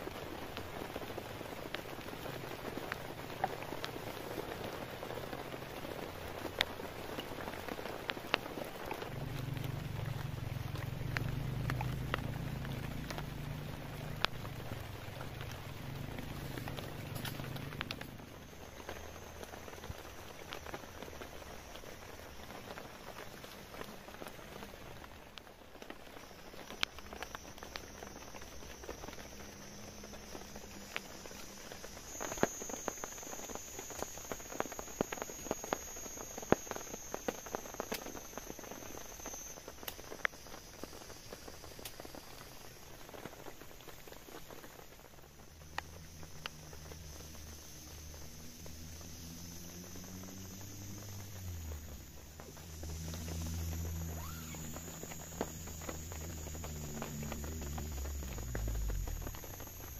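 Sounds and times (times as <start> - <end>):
rain pattering on a tarp: 0.0 - 59.9
high-pitched insect drone: 8.8 - 24.5, 26.1 - 59.9.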